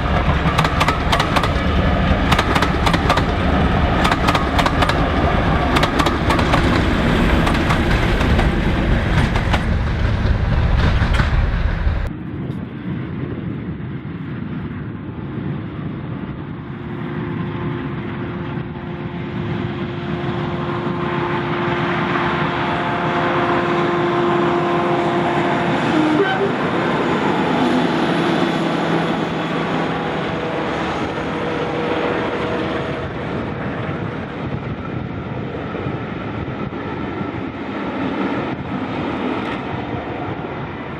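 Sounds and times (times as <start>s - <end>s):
deep rumbling: 0.0s - 40.9s
diesel locomotive engine drone: 0.0s - 40.9s
rail noise: 0.0s - 40.9s.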